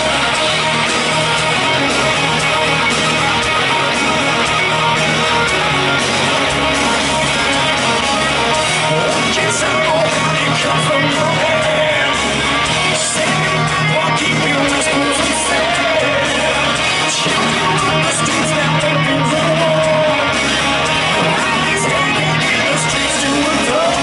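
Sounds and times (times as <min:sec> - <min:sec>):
heavy metal band playing live: 0:00.0 - 0:24.0.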